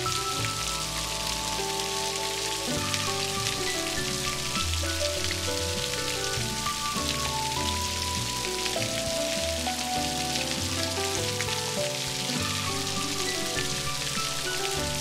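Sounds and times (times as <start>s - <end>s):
soft background music: 0.0s - 15.0s
steady rain pattering: 0.0s - 15.0s.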